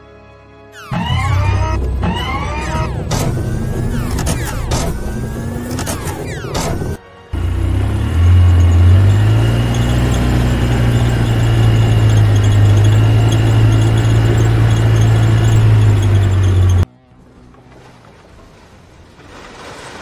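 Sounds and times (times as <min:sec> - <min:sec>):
car engine driving off: 0:00.8 - 0:16.9.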